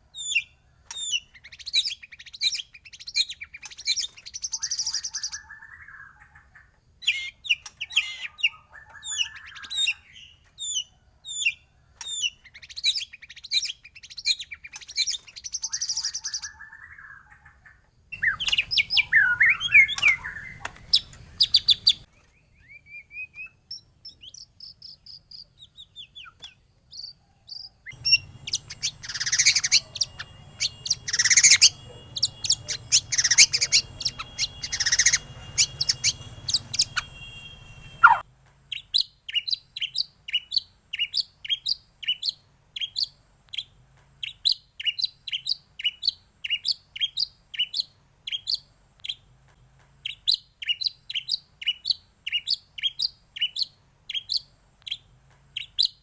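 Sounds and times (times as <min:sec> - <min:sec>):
bird song whistles and trills: 0:00.1 - 0:49.2, 0:50.0 - 0:56.0.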